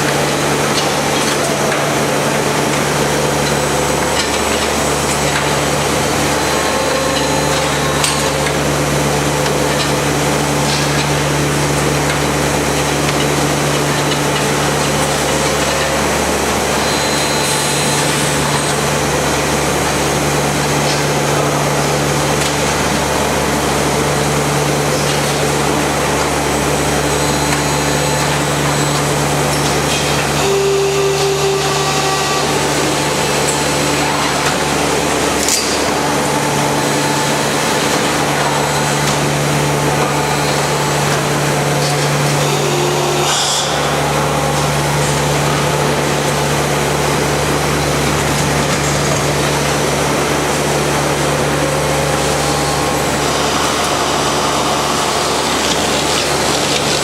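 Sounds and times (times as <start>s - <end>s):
production line machinery humming: 0.0s - 57.0s.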